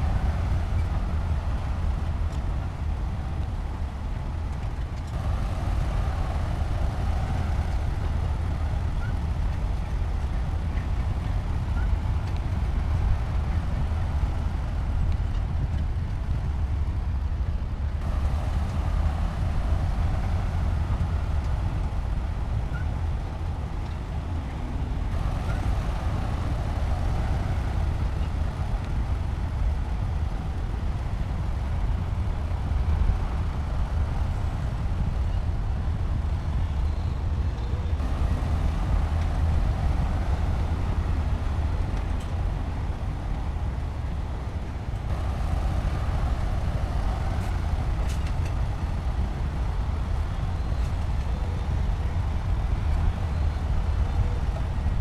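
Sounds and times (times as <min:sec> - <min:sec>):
heavy diesel engine droning: 0:00.0 - 0:17.2, 0:17.9 - 0:55.0.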